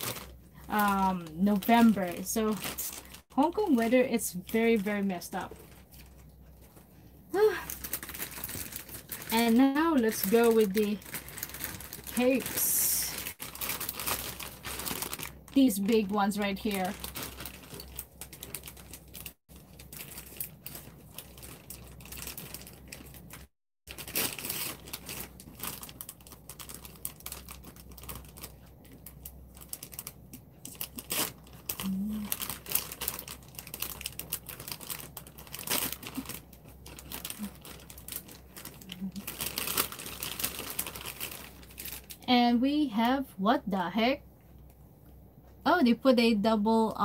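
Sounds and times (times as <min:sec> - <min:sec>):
plastic packaging crinkling: 0:00.0 - 0:42.2.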